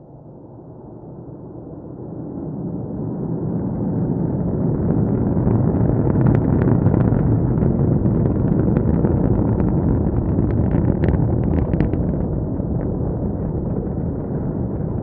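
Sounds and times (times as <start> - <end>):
distant rocket engine rumble: 0.1 - 15.0.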